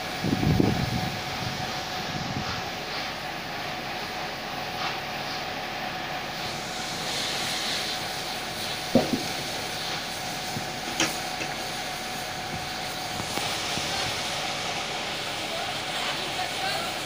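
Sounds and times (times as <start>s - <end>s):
fire engine running: 0.0s - 17.0s.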